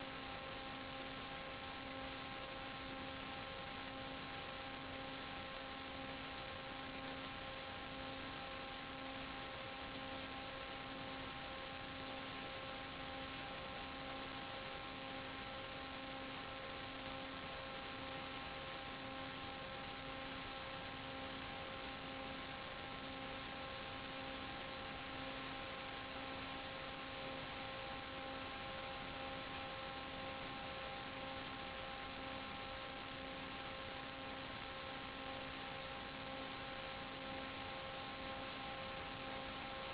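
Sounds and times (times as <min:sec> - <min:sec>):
electrical hum and whine: 0:00.0 - 0:39.9
steady hiss: 0:00.0 - 0:39.9.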